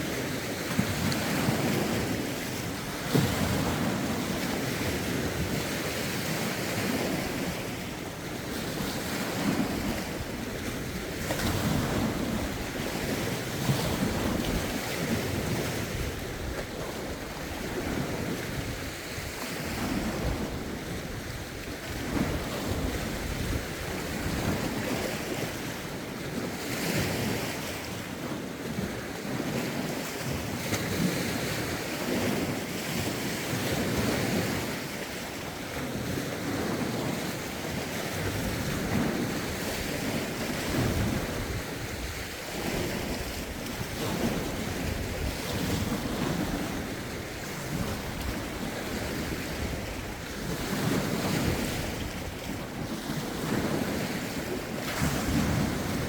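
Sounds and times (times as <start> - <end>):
lake waves washing in: 0.0 - 56.0
wind on microphone: 0.0 - 56.0.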